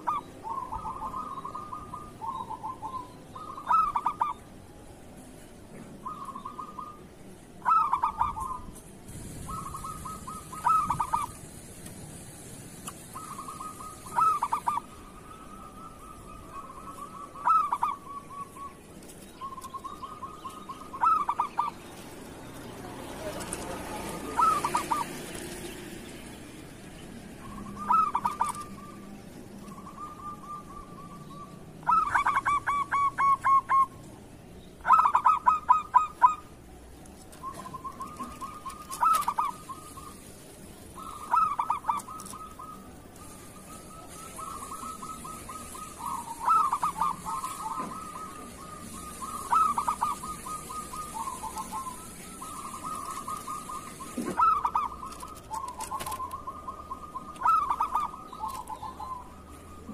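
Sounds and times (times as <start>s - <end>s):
dove cooing: 0.0s - 4.6s, 5.8s - 11.6s, 13.0s - 18.8s, 19.4s - 22.1s, 22.9s - 25.7s, 27.4s - 34.1s, 34.8s - 36.6s, 37.3s - 40.3s, 40.9s - 59.9s.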